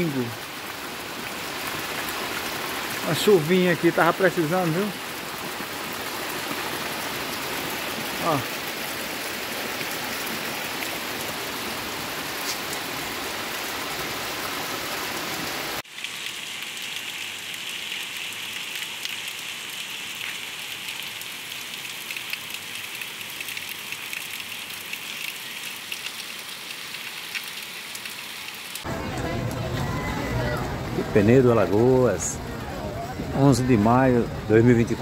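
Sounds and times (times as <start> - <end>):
heavy rain: 0.0 - 35.0
rain on a wet street: 0.0 - 35.0.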